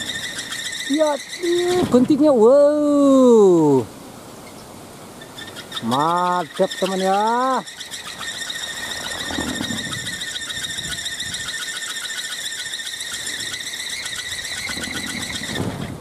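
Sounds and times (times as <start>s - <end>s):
wind propeller whining: 0.0s - 16.0s.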